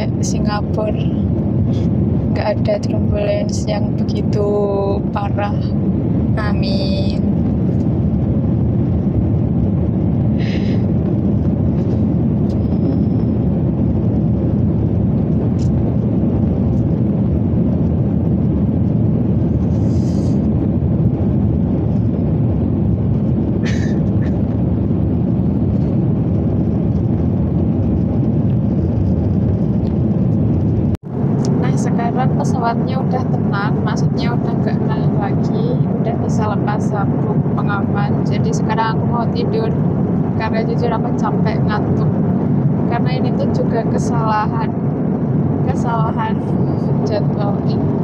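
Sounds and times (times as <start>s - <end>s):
airliner cabin engine rumble: 0.0s - 48.0s.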